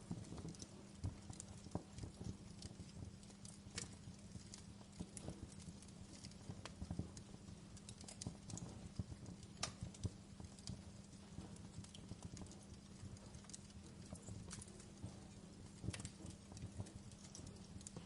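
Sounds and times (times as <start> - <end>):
low steady hum: 0.0 - 18.0
wood fire crackling: 0.0 - 18.0.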